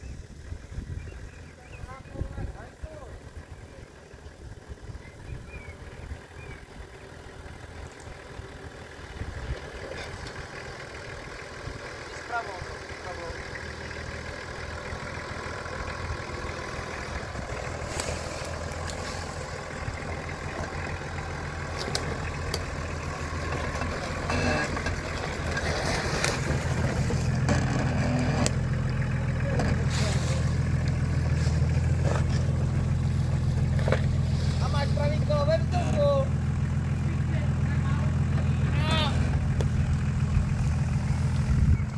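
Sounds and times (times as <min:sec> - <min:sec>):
off-road vehicle engine at low revs: 0:00.0 - 0:41.9.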